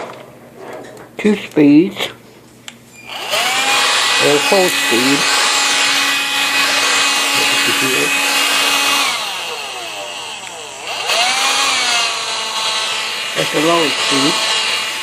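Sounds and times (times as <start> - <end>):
vacuum cleaner motor whining: 3.0 - 15.0.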